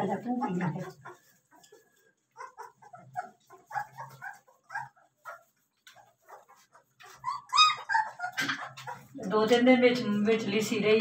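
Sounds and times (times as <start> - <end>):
puppies whimpering and yipping: 0.1 - 9.2.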